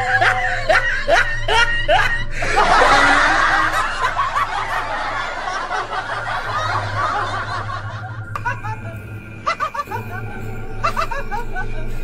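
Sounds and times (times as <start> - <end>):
crowd laughing: 0.0 - 12.0.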